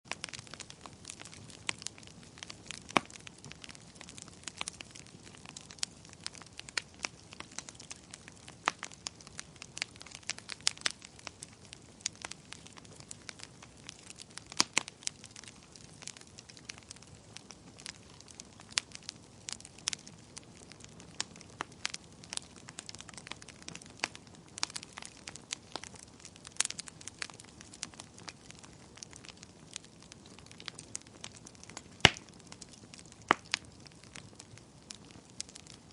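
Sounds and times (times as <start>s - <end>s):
campfire crackling and popping: 0.1s - 35.9s.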